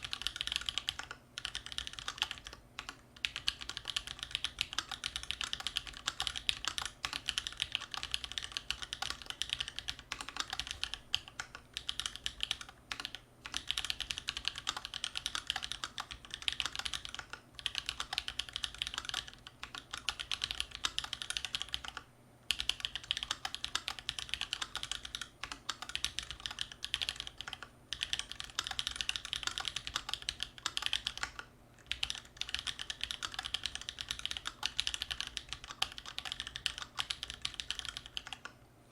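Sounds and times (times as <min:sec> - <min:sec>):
fast typing on mechanical keyboard: 0:00.0 - 0:38.6.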